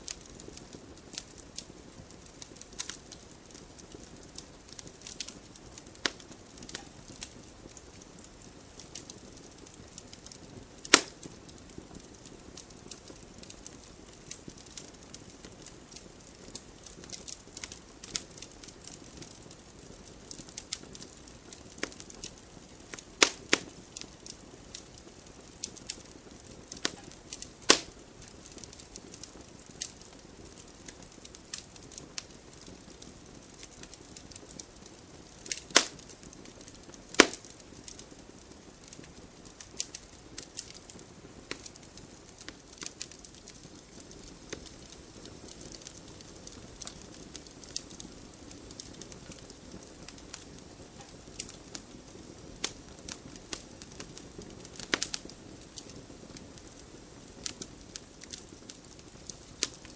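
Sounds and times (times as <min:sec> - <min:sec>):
burning logs popping and snapping: 0:00.0 - 0:59.9
fire hissing: 0:00.0 - 0:59.9.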